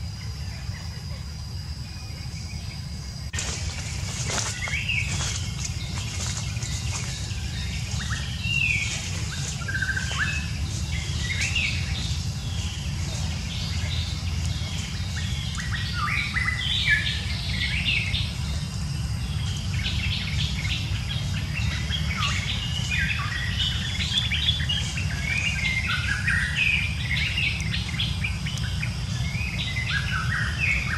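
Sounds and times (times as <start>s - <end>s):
small birds chirping: 0.0s - 30.9s
low rumble: 1.5s - 30.9s.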